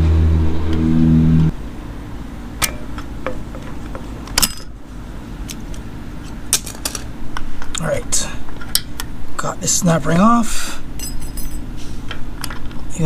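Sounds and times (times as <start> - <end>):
low droning hum: 0.0 - 12.4.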